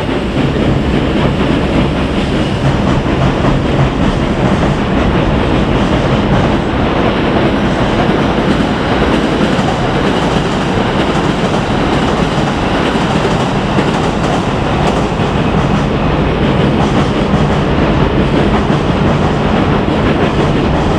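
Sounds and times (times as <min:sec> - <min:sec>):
train rumbling: 0:00.0 - 0:20.9.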